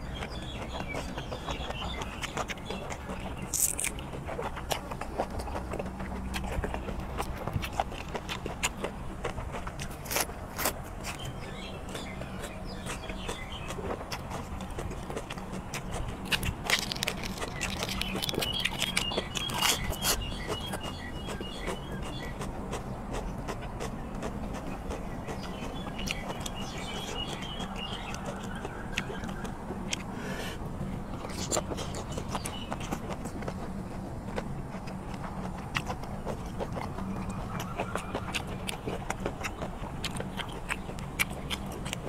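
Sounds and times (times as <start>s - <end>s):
close-miked chewing: 0.0s - 42.0s.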